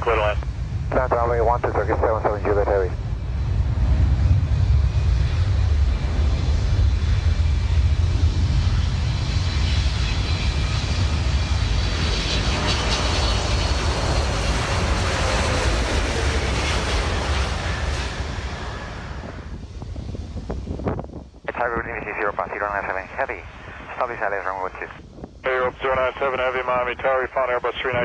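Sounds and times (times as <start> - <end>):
high jet engine whine: 0.0 - 28.0
jet engines rumbling: 0.0 - 28.0.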